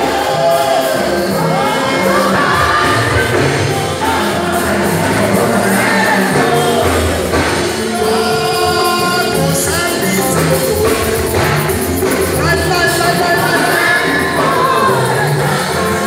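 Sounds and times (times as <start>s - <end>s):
church band playing: 0.0s - 16.0s
people singing: 0.0s - 16.0s.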